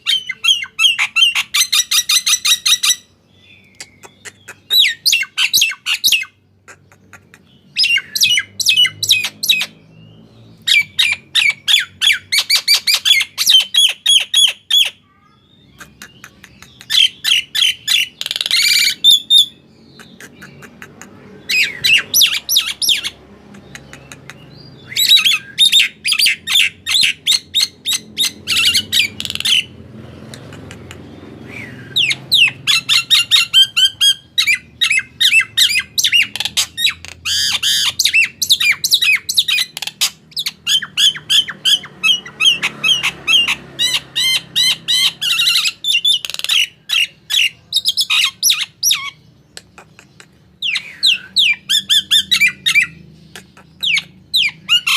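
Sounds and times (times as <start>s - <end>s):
songbird shrill chirps and squawks: 0.0s - 54.9s.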